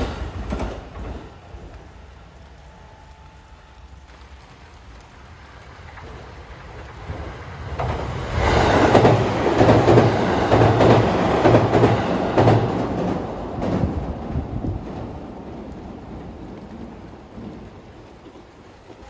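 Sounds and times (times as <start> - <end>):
train wheels clickety-clack: 0.0 - 3.5, 5.6 - 19.0
train rolling noise: 0.0 - 19.0.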